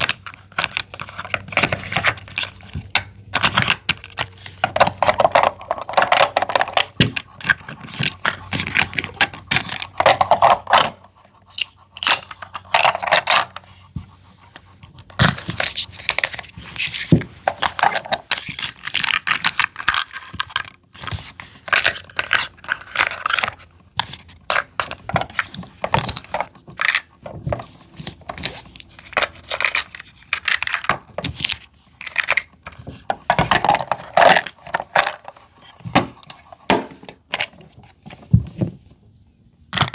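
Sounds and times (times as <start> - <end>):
plastic toys and packaging rustling: 0.0 - 39.9.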